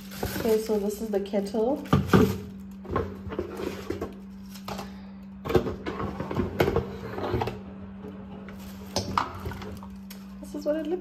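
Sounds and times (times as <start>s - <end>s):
cardboard and plastic packaging rustling: 0.0s - 7.6s, 8.3s - 11.0s
steady low hum: 0.0s - 11.0s.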